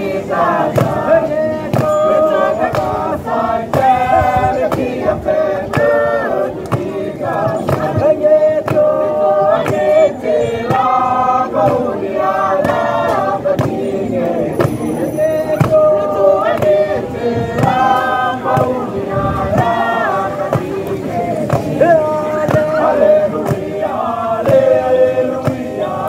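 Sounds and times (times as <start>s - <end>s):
choir singing in harmony: 0.0s - 26.0s
steady beat: 0.0s - 26.0s.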